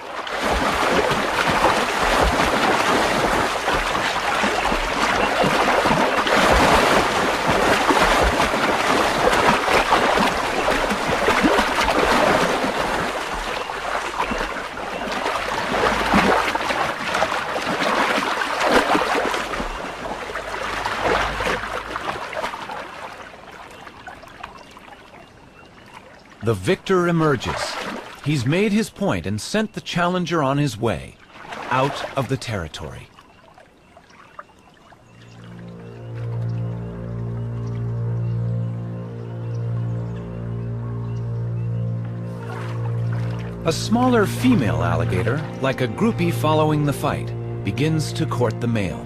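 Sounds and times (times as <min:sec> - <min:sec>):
water splashing and churning: 0:00.0 - 0:49.0.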